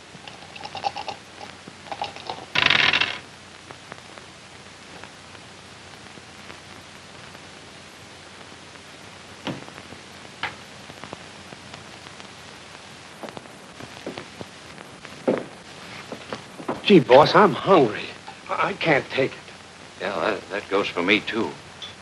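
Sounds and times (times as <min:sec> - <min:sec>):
film soundtrack hiss: 0:00.0 - 0:22.0.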